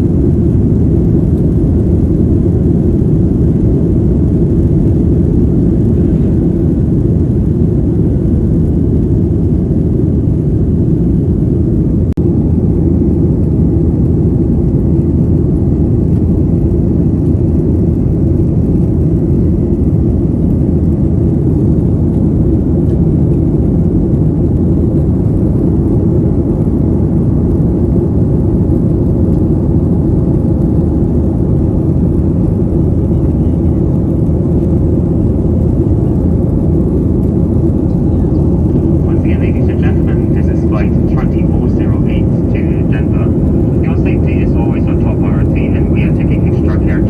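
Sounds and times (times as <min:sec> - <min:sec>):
jet airliner cabin roar: 0:00.0 - 0:47.0.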